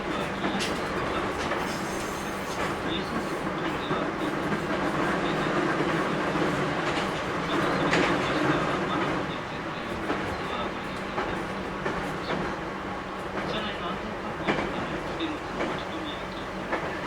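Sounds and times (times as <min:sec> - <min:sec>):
rail joint clicks: 0:00.0 - 0:17.0
train wheels rumbling on rail: 0:00.0 - 0:17.0.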